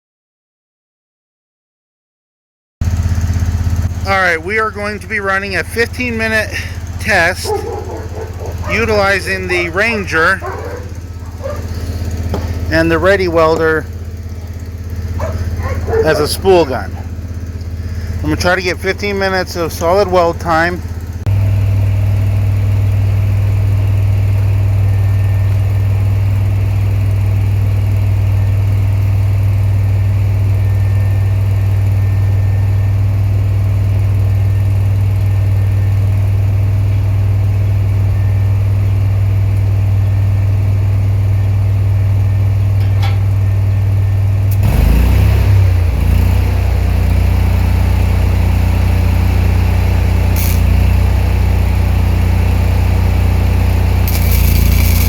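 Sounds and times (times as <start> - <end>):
engine idling: 2.8 - 55.0.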